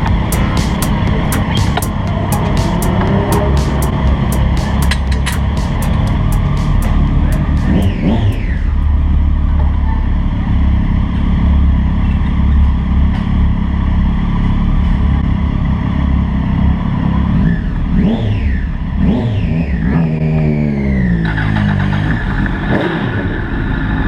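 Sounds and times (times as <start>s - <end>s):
motorcycle engine running hard: 0.0s - 24.0s.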